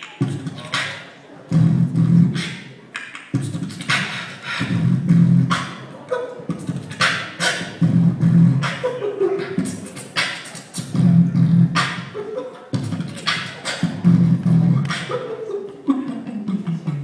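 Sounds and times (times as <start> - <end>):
beatboxing: 0.0 - 17.0.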